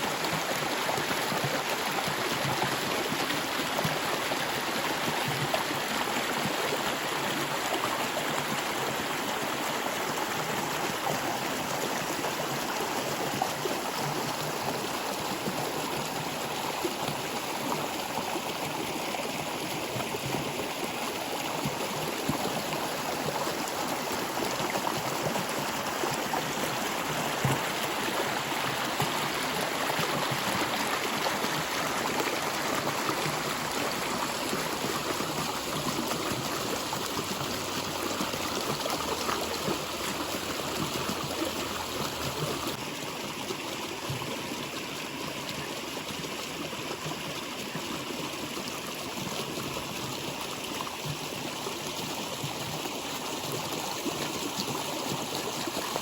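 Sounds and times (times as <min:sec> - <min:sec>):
stream of water flowing: 0:00.0 - 0:56.0
water gurgling and trickling: 0:00.0 - 0:56.0.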